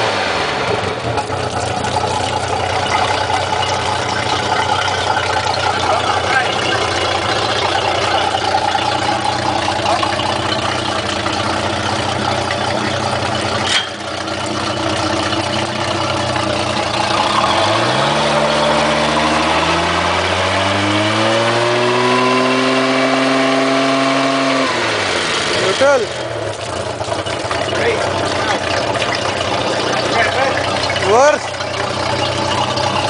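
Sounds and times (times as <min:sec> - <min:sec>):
boat engine revving: 0:00.0 - 0:33.0
garden hose water: 0:00.1 - 0:33.0.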